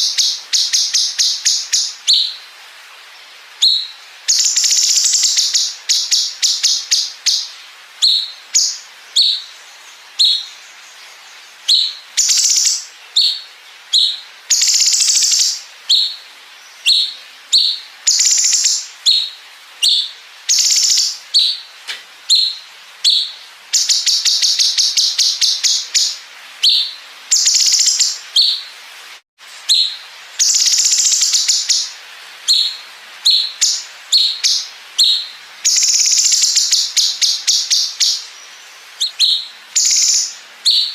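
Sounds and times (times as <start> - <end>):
bird singing sharp notes and trills: 0.0 - 2.4, 3.6 - 28.7, 29.6 - 40.9.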